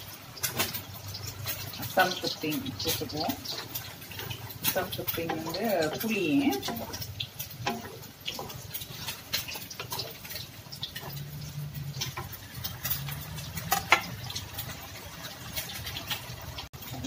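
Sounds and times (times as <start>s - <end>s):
wooden spatula scraping a wok: 0.4s - 17.0s.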